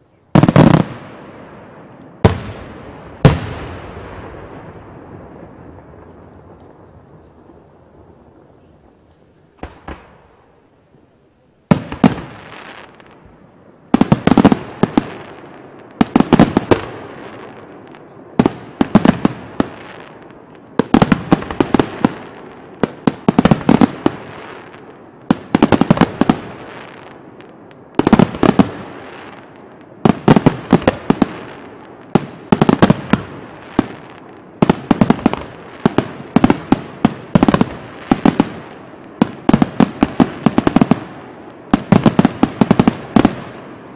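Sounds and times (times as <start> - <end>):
crackling fireworks: 0.0 - 43.9.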